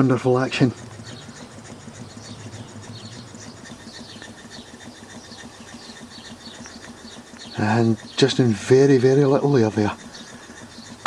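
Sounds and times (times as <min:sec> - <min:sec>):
model engine air chuffing: 0:00.0 - 0:11.0.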